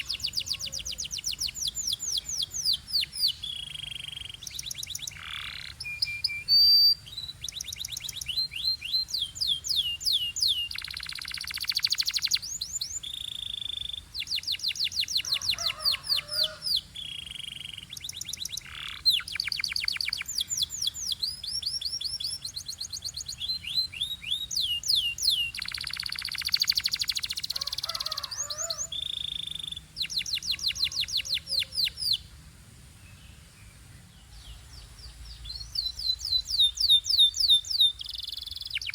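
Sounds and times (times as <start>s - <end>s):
canary singing: 0.0s - 32.3s, 34.8s - 38.9s.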